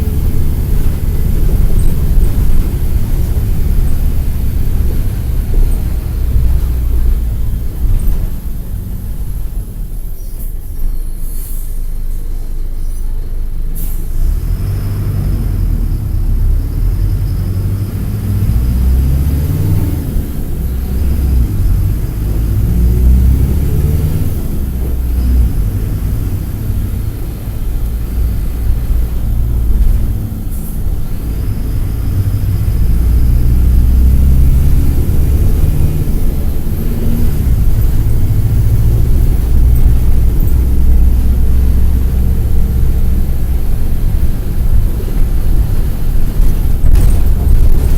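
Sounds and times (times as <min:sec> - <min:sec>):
bus diesel engine accelerating: 0:00.0 - 0:47.9.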